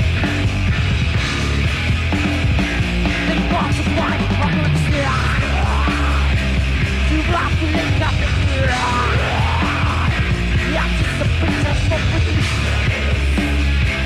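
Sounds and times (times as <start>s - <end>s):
death metal band playing live: 0.0s - 14.0s
yelled vocals: 0.0s - 14.0s.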